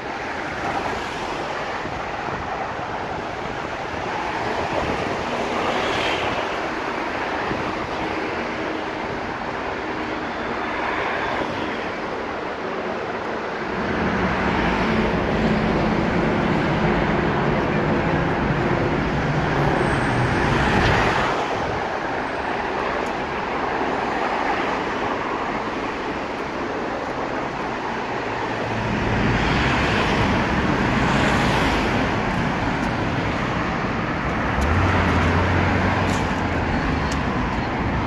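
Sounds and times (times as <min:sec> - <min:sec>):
vehicles passing close by: 0:00.0 - 0:38.0.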